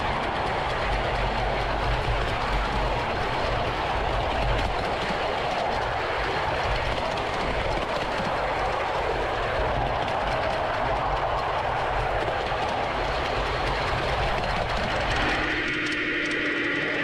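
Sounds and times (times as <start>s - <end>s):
miniature train wheels on rails: 0.0s - 17.0s.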